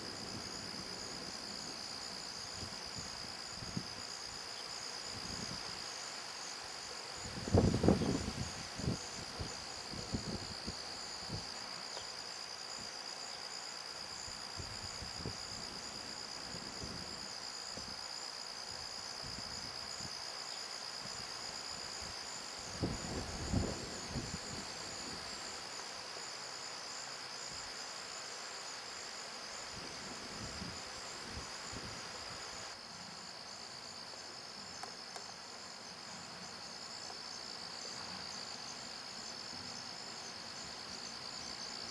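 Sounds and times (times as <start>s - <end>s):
crickets and insects chirping: 0.0s - 41.9s.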